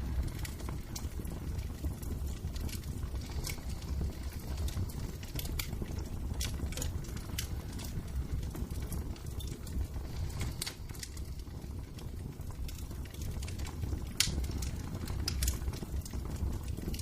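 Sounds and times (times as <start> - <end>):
low steady rumble: 0.0 - 16.5
wood fire crackling: 0.0 - 17.0.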